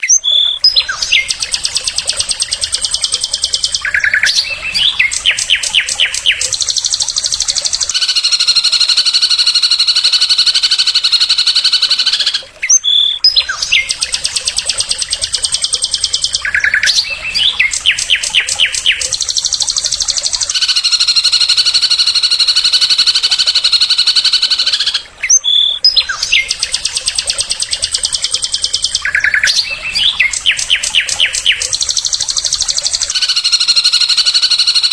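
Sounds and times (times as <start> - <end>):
songbird song with trills: 0.0 - 34.9.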